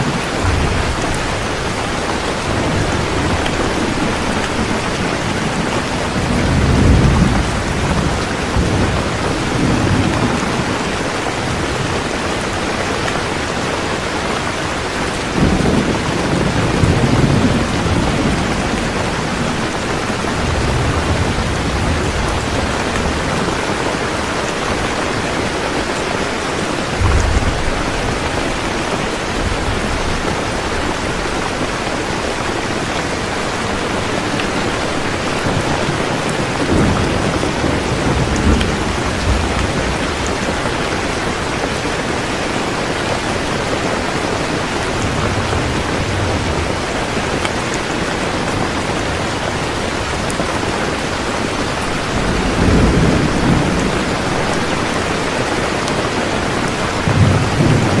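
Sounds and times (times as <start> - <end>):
heavy rain falling: 0.0 - 58.0
thunder rumbling: 0.0 - 58.0.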